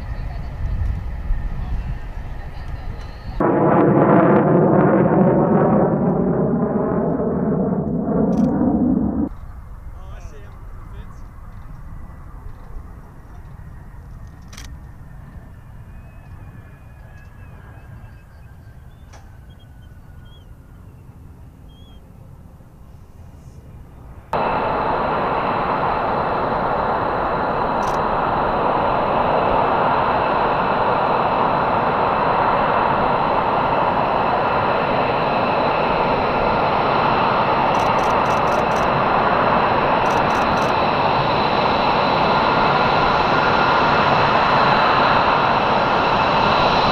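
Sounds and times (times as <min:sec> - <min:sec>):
jet engine whine: 0:00.0 - 0:46.9.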